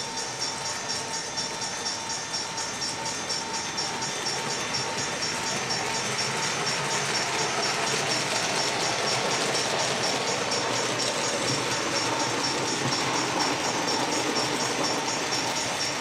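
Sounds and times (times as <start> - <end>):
model train running past: 0.0 - 16.0
rapid high ticking: 0.1 - 16.0.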